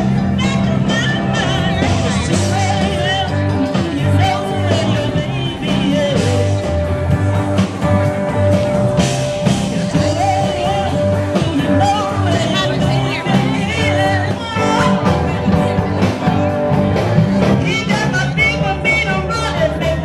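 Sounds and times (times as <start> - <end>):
bass line: 0.0 - 20.0
blues band playing live: 0.0 - 20.0.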